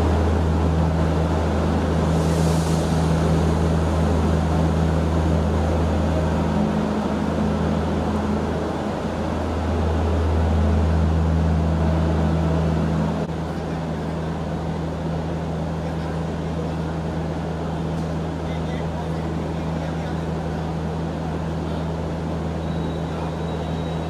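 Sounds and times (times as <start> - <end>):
train engine hum: 0.0 - 24.0.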